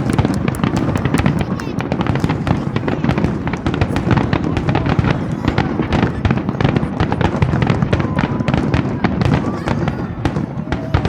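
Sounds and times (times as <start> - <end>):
firework bursts and crackles: 0.0 - 11.0.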